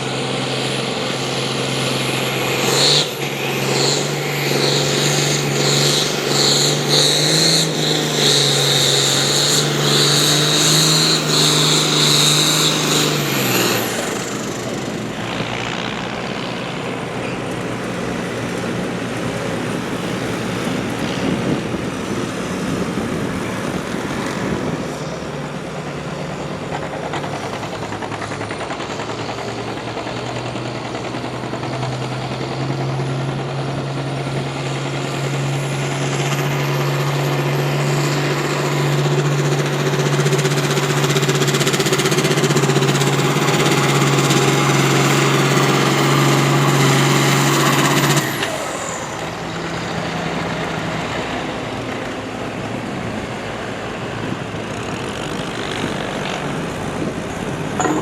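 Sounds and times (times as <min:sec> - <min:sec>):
tractor engine at full throttle: 0:00.0 - 0:58.0.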